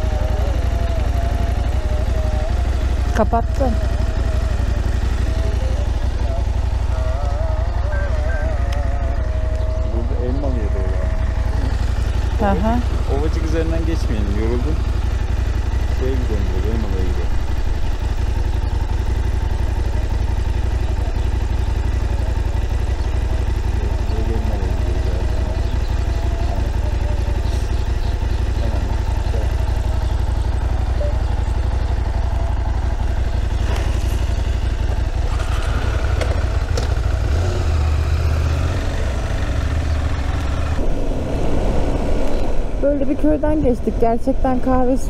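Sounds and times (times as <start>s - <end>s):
motorcycle engine rumbling: 0.0s - 45.0s.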